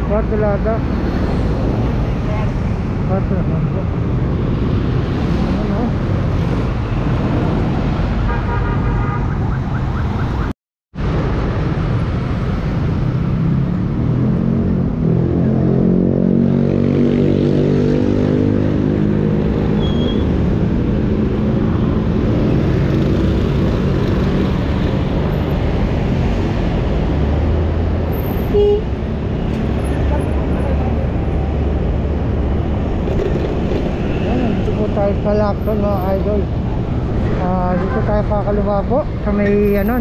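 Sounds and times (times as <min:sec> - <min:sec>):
road and wind noise: 0:00.0 - 0:40.0
street traffic: 0:00.0 - 0:40.0.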